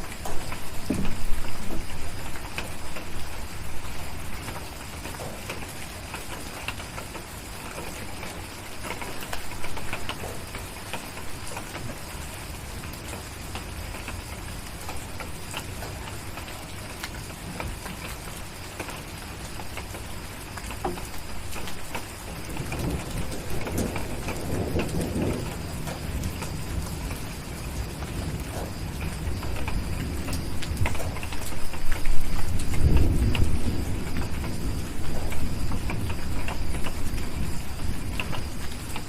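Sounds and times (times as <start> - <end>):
low rumble of thunder: 0.0 - 39.0
steady rain: 0.0 - 39.0.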